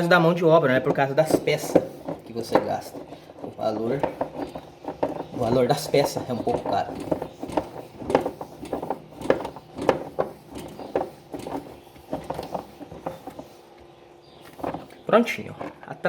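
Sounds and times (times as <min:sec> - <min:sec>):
tools and metal parts clicking: 0:00.0 - 0:13.4.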